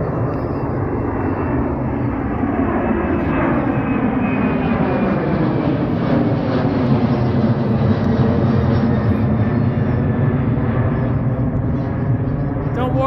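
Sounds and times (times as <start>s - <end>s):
high jet whine: 0.0s - 13.0s
jet engines roaring overhead: 0.0s - 13.0s.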